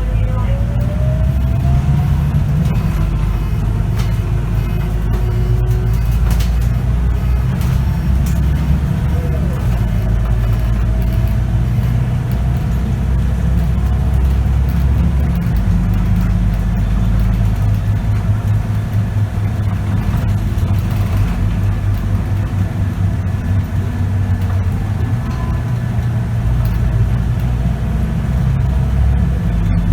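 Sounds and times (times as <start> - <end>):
bus diesel engine running: 0.0 - 29.9.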